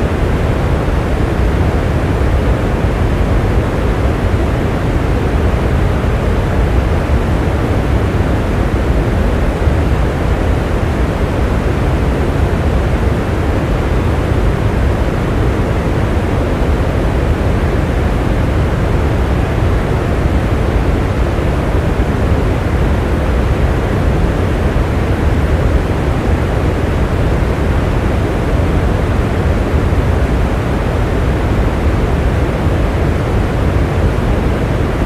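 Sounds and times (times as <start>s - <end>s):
heavy rain with low rumble: 0.0s - 35.0s.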